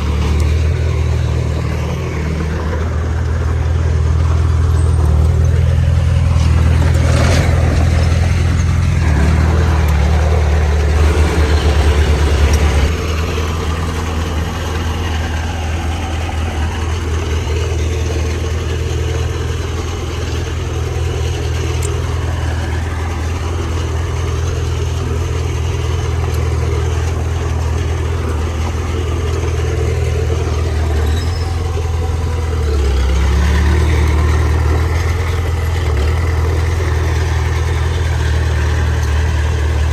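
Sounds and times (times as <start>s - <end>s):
heavy diesel engine under load: 0.0s - 39.9s.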